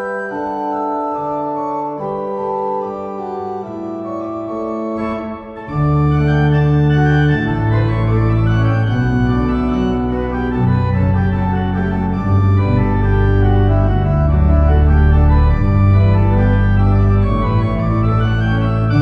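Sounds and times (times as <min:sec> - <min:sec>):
church organ chords: 0:00.0 - 0:19.0.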